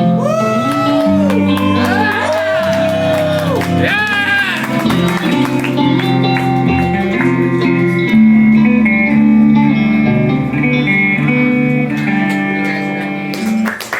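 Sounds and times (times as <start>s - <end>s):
guitars playing sustained chords: 0.0s - 13.7s.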